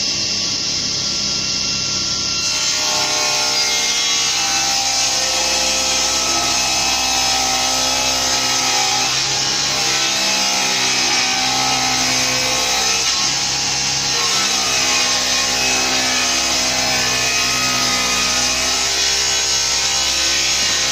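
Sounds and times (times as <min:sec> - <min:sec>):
table saw motor whine: 0:00.0 - 0:20.9
saw blade cutting wood: 0:02.3 - 0:20.9.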